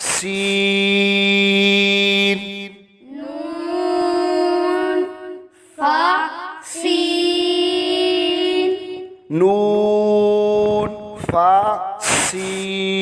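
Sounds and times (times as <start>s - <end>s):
high-pitched voice chanting: 0.0s - 0.7s, 3.0s - 13.0s.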